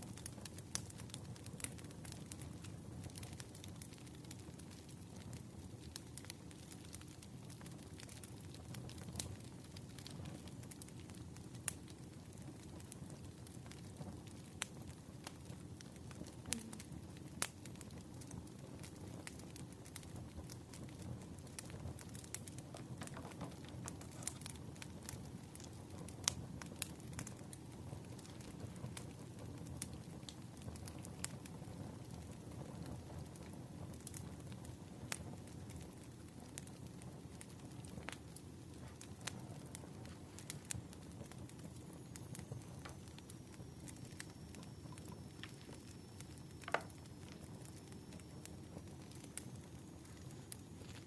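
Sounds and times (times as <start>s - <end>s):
sharp pops of fire: 0.0s - 51.0s
wood fire crackling: 0.0s - 51.0s.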